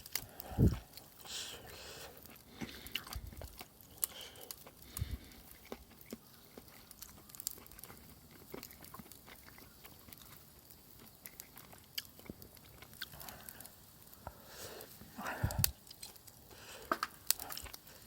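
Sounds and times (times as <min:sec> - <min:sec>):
faint chewing and biting food: 0:00.0 - 0:18.0.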